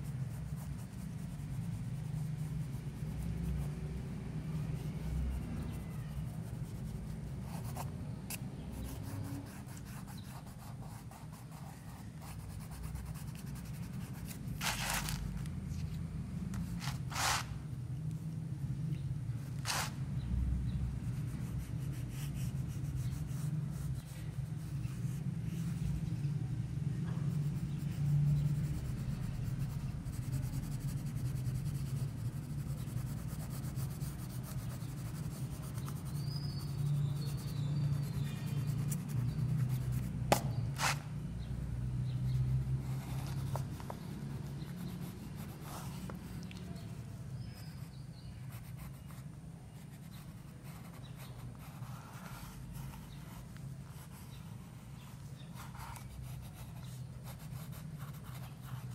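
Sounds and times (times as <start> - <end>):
pencil scratching on paper: 0.0 - 4.0, 4.6 - 15.3, 19.6 - 20.0, 21.1 - 25.8, 27.1 - 41.0, 42.0 - 58.9.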